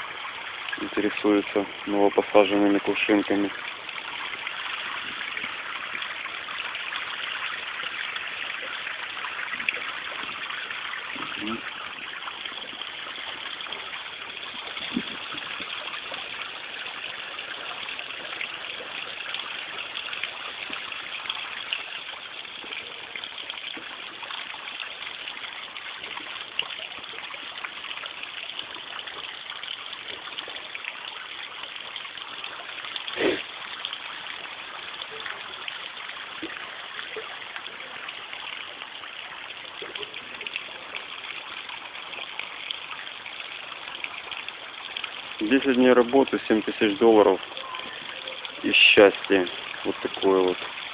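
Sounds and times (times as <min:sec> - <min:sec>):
waterfall splashing into pond: 0:00.0 - 0:50.9.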